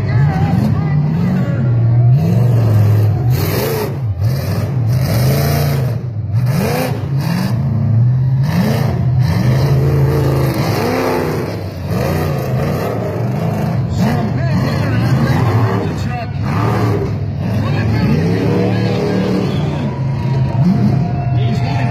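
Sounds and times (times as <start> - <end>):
monster truck engine revving: 0.0 - 21.9.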